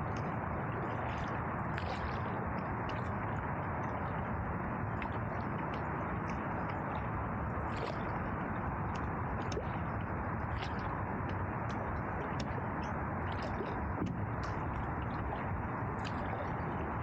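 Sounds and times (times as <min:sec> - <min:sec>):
drips and small splashes: 0:00.0 - 0:17.0
water washing around canoe: 0:00.0 - 0:17.0.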